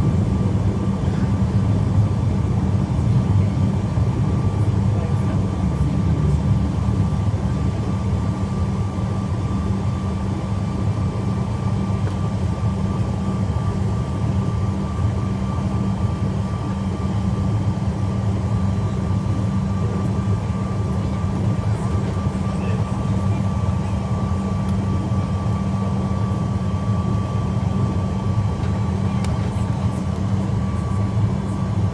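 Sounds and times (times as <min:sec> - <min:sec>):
jet engines droning: 0:00.0 - 0:31.9.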